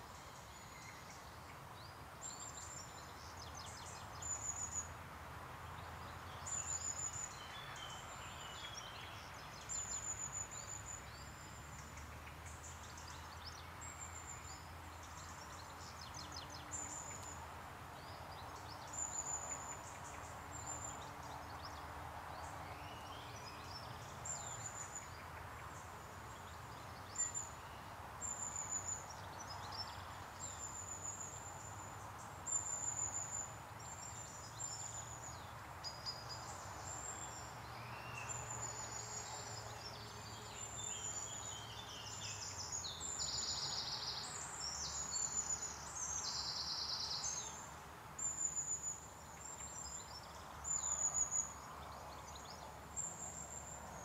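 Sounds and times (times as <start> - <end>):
soft steady hiss: 0.0 - 54.0
songbirds calling: 5.6 - 54.0.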